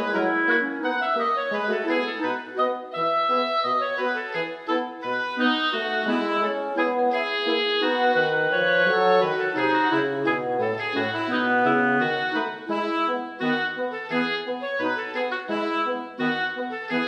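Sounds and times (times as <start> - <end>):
instrumental music with wind melody: 0.0 - 17.0.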